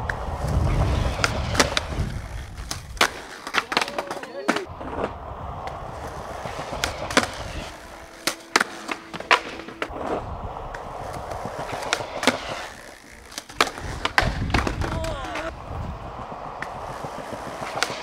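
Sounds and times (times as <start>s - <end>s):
skateboard clacking on ground: 0.0s - 18.0s
skateboard wheels rolling on concrete: 0.0s - 18.0s.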